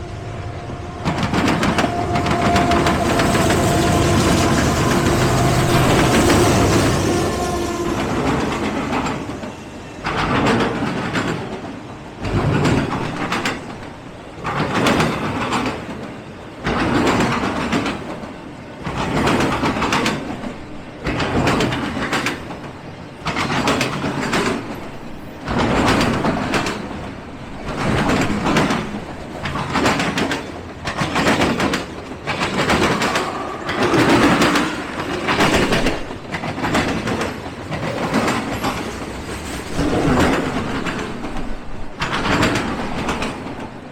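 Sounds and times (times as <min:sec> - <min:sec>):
freight train wheels clacking: 0:00.0 - 0:43.9.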